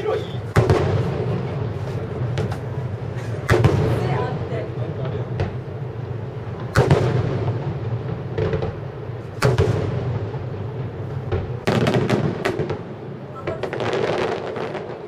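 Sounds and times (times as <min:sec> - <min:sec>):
fireworks bursting in booms: 0:00.0 - 0:15.0.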